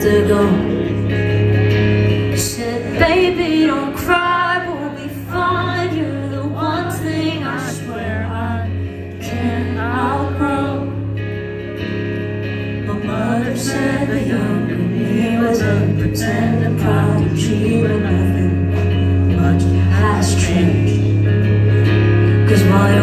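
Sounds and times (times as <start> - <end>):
guitar: 0.0 - 23.0.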